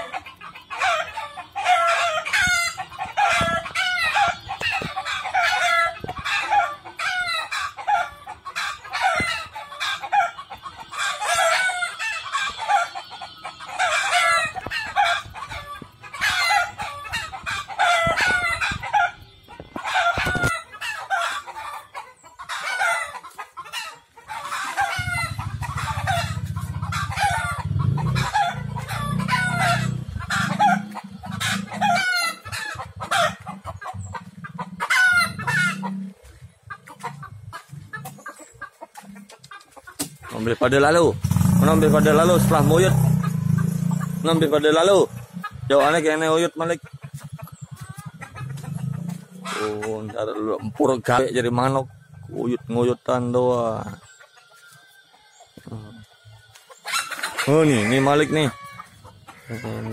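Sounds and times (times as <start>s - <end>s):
chickens and roosters cackling: 0.0s - 59.9s.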